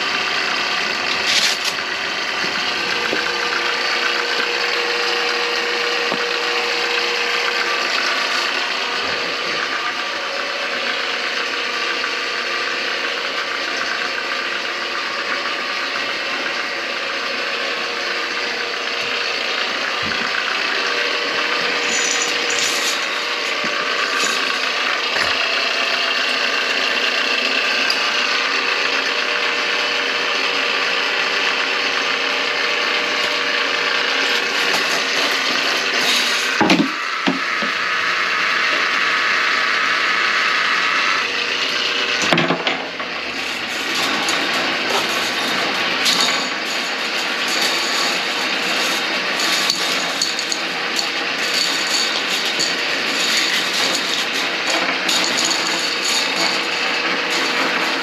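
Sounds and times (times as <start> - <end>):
drain auger rattling: 0.0 - 58.0.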